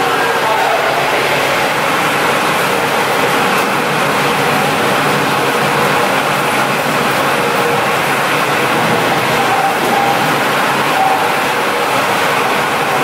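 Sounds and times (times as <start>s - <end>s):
diesel generator droning: 0.0s - 13.0s.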